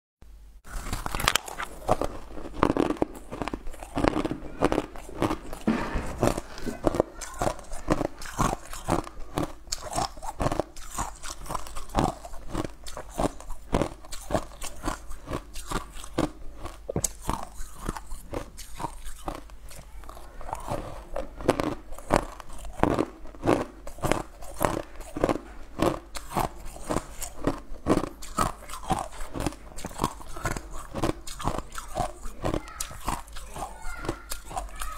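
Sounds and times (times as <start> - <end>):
ice being chewed: 0.6 - 34.9.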